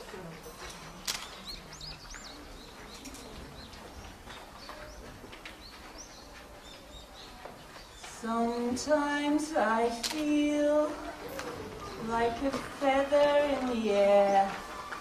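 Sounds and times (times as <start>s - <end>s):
small birds chirping: 0.4s - 9.4s, 10.2s - 15.0s.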